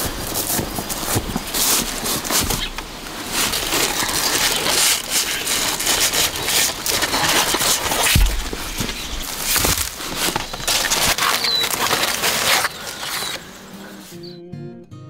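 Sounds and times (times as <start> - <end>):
leaves and stems rustling: 0.0 - 14.3.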